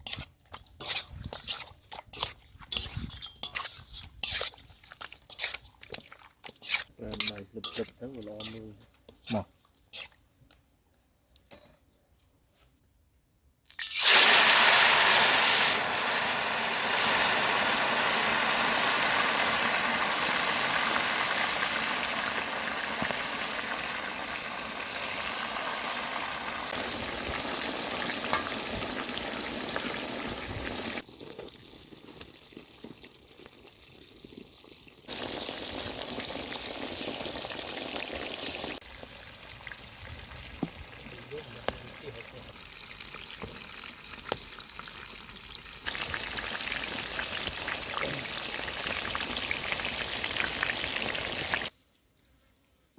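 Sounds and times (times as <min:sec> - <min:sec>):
food sizzling in hot oil: 0:00.0 - 0:05.7, 0:13.8 - 0:51.7.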